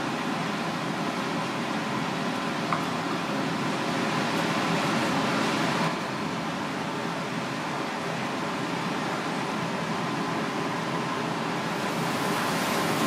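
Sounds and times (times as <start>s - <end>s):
kitchen ventilation hiss: 0.0s - 13.0s.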